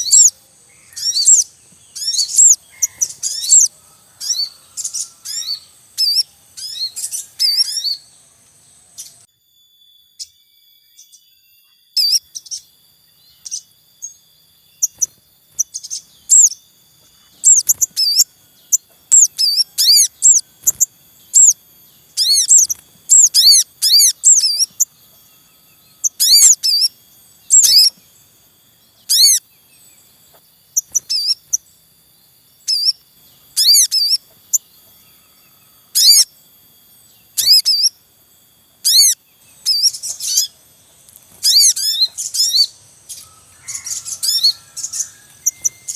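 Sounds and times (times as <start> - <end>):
birds chirping in a group: 0.0 - 9.3, 9.9 - 45.9
faint high whine: 0.0 - 45.9.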